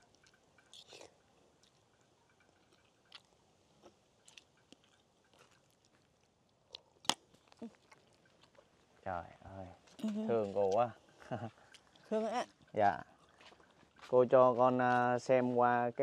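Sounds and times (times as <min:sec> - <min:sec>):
quiet chewing: 0:00.0 - 0:15.2.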